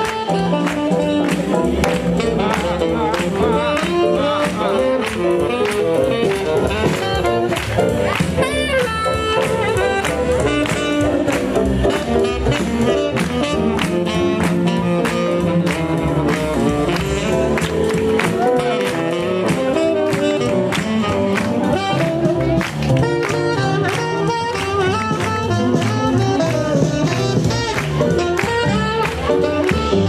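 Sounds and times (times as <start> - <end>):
double bass: 0.0 - 30.0
drums keeping a steady beat: 0.0 - 30.0
keyboard: 0.0 - 30.0
saxophone: 0.0 - 30.0.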